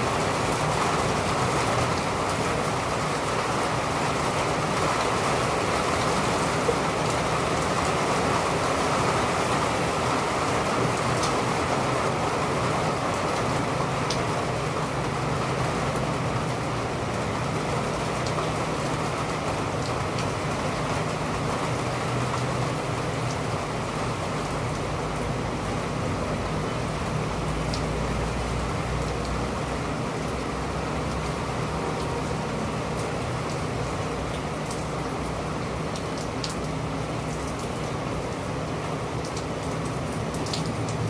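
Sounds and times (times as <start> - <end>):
rain on hard surfaces: 0.0 - 41.0.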